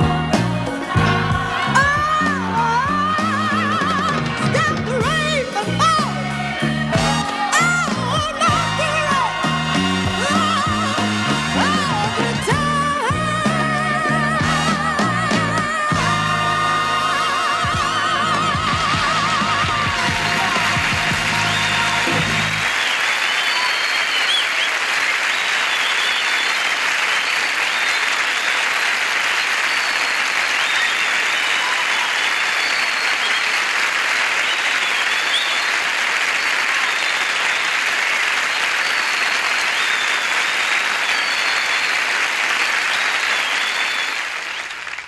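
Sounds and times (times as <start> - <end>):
audience applauding: 0.0 - 45.0.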